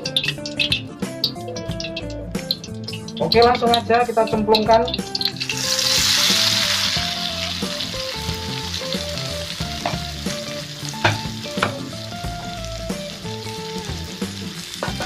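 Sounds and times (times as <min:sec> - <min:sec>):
food sizzling in hot oil: 0:00.0 - 0:15.0
oil crackling: 0:00.0 - 0:15.0.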